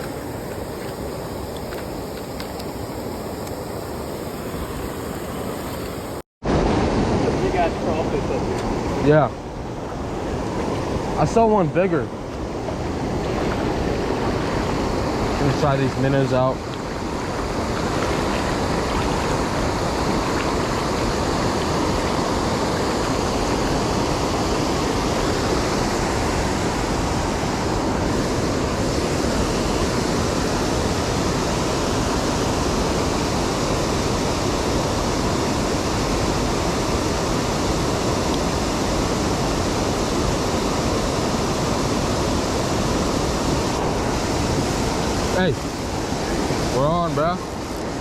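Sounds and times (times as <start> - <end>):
creek water rushing: 0.0 - 48.0.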